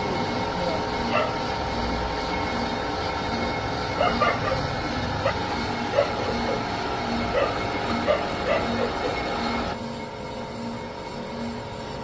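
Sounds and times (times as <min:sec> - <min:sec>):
workshop machinery running: 0:00.0 - 0:12.0.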